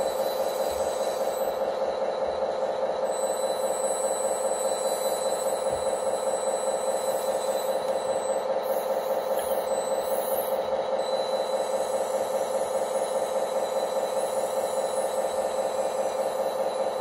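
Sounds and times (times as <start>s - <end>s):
toy tractor motor humming: 0.0s - 17.0s.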